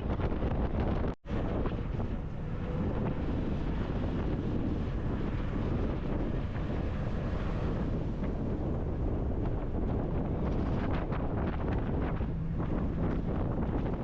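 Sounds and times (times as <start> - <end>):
bus rumbling on road: 0.0 - 14.0
wind buffeting microphone: 0.0 - 14.0.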